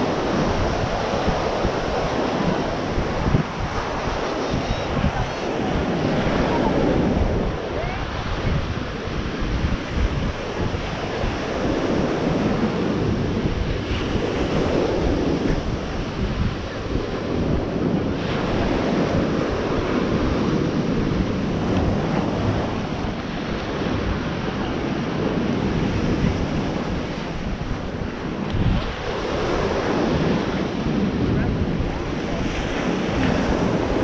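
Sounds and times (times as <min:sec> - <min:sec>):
ocean surf washing ashore: 0:00.0 - 0:34.0
wind buffeting microphone: 0:00.0 - 0:34.0.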